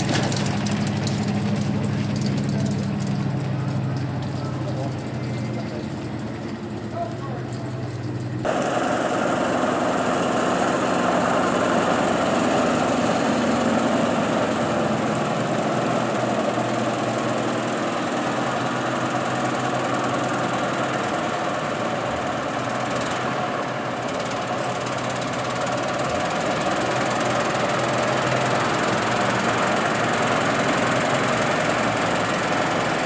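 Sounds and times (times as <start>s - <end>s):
truck engine driving past: 0.0s - 33.0s.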